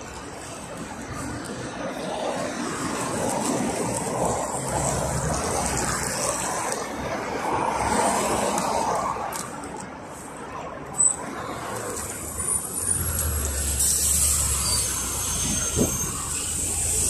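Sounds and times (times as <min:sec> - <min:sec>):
cars driving past: 0:00.1 - 0:17.0.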